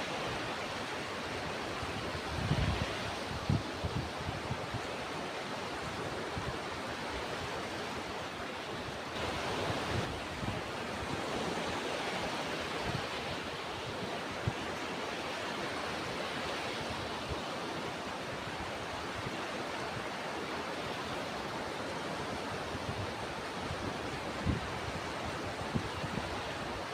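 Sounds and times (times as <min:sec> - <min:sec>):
ocean surf washing: 0:00.0 - 0:26.9.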